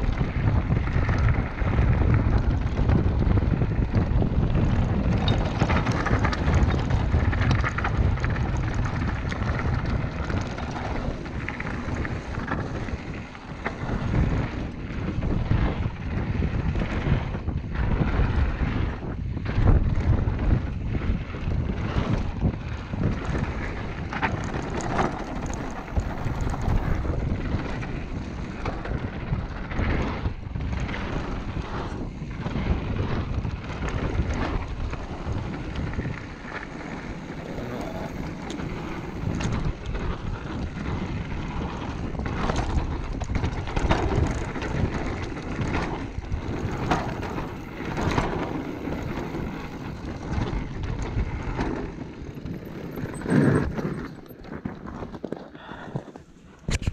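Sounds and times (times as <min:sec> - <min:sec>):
bike knocking and rattling: 0:00.0 - 0:56.9
bike tyres rolling on gravel: 0:00.0 - 0:56.9
wind buffeting microphone: 0:00.0 - 0:56.9.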